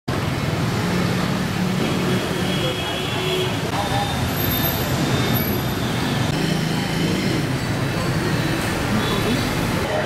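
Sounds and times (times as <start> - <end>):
city street traffic: 0.1 - 10.0.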